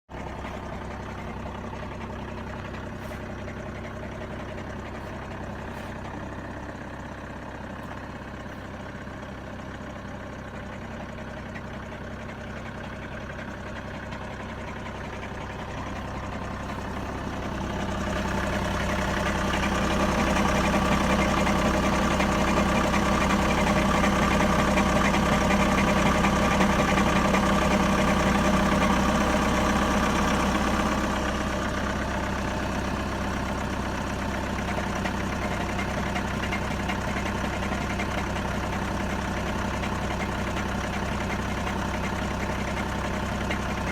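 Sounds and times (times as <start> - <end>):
diesel engine idling with knock: 0.1 - 43.9.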